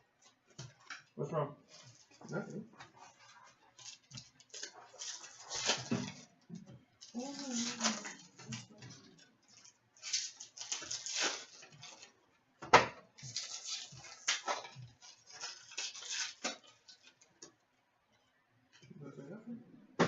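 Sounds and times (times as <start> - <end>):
wrappers crinkling and rustling: 0.2 - 12.3, 13.2 - 17.4.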